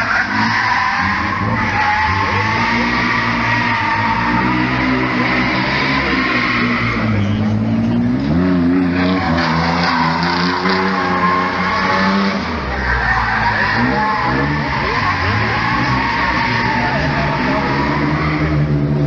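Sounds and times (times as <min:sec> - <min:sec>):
car engine revving hard: 0:00.0 - 0:19.0
tyres squealing and skidding: 0:00.0 - 0:19.0.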